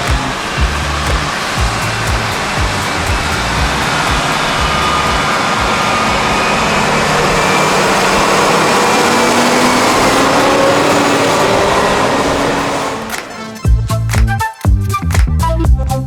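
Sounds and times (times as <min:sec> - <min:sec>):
tractor diesel engine roaring: 0:00.0 - 0:13.6.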